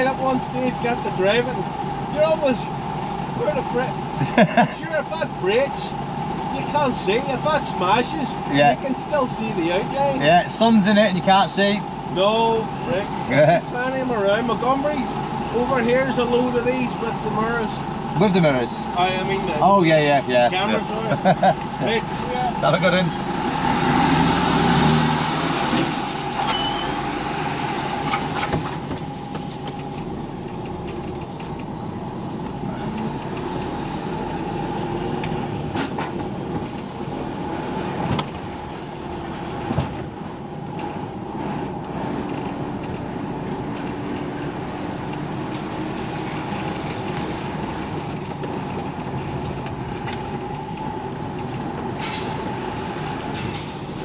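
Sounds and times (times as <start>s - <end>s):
lorry engine running: 0.0s - 54.0s.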